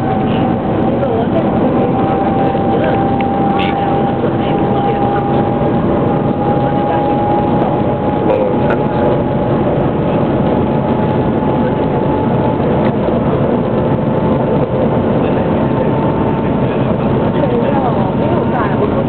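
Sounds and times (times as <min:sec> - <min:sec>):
thin steady whine: 0:00.0 - 0:19.0.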